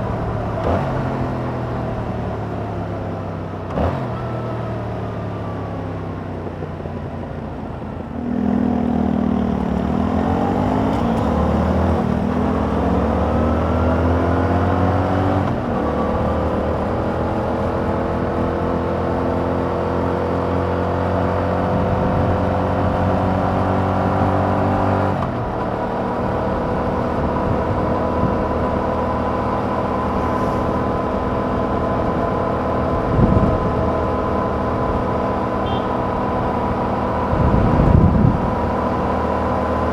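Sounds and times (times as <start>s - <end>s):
motorcycle engine revving: 0.0s - 2.8s, 8.1s - 39.9s.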